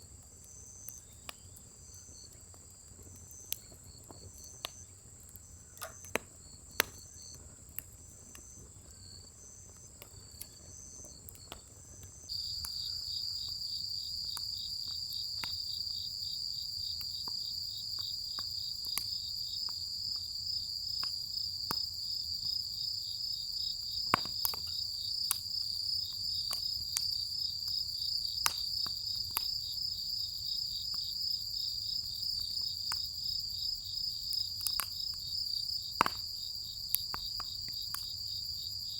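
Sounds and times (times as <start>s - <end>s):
firewood crackling: 0.0s - 38.9s
insects chirping: 0.0s - 38.9s.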